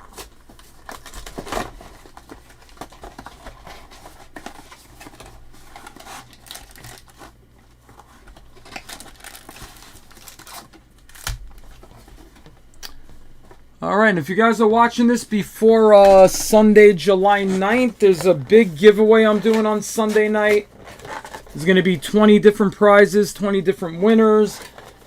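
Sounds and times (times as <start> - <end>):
plastic packaging crinkling and tearing: 0.0 - 12.3, 15.9 - 25.0.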